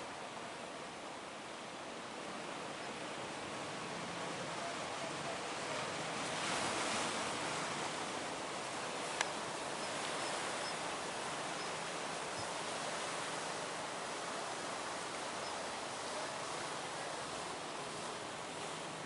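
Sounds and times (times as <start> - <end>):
ocean waves breaking: 0.0 - 19.0.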